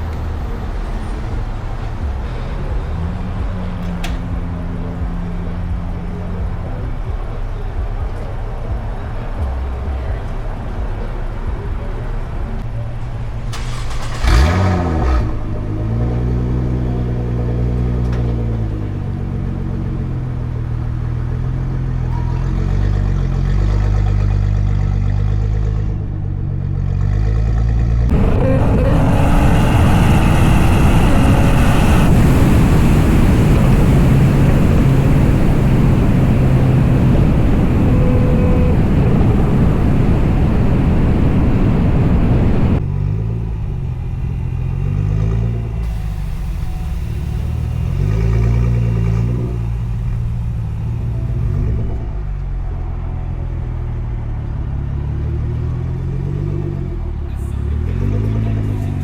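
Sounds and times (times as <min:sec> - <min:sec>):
car engine revving: 0:00.0 - 0:59.0
rough rush of engine noise: 0:00.0 - 0:59.0.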